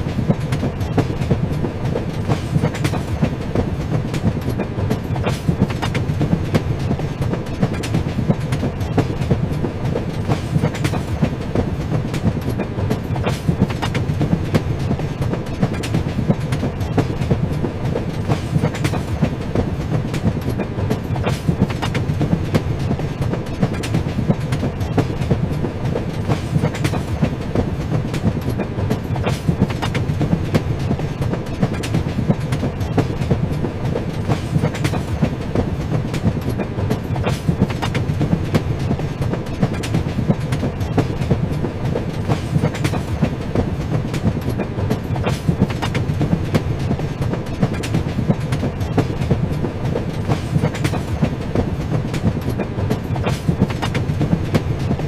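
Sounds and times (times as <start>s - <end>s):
train rumbling along track: 0.0s - 55.0s
wheels clicking on rails: 0.0s - 55.0s.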